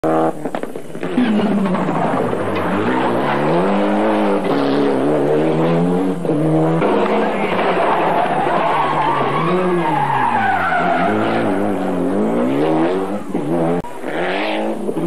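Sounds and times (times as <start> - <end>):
rally car engine revving hard: 1.1 - 15.0.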